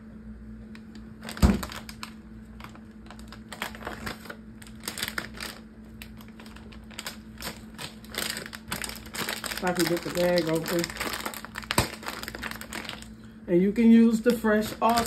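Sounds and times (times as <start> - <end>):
plastic bag crinkling: 0.8 - 13.2, 14.2 - 15.0.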